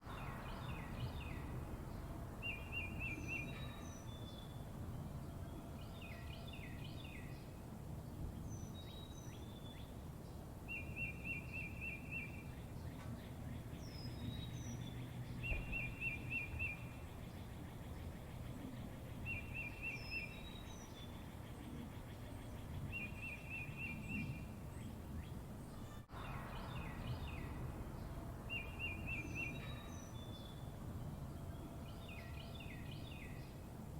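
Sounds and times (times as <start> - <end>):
steady low background noise: 0.0 - 33.9.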